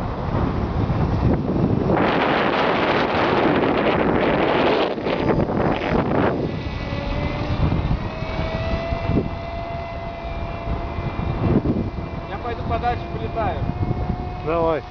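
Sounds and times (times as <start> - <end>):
model plane motor whine: 0.0 - 14.9
wind on microphone: 0.0 - 14.9.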